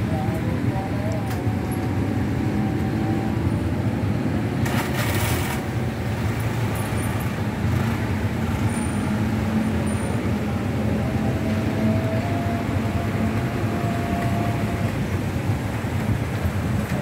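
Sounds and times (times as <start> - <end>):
idling motor scooters and traffic: 0.0 - 17.0.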